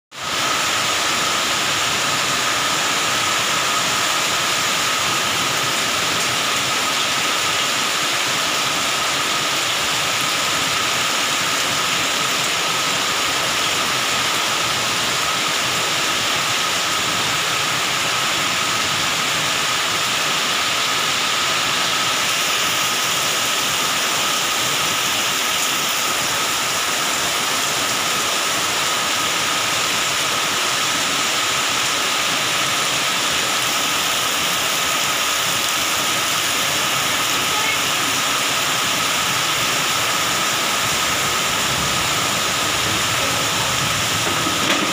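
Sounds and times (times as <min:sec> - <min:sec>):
heavy rain pouring: 0:00.1 - 0:44.9.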